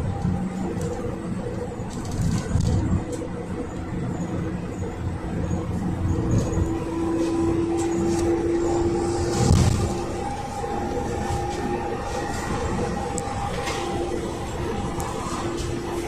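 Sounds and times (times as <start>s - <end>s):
engine and road noise: 0.0s - 16.0s
engine whine: 0.0s - 16.0s.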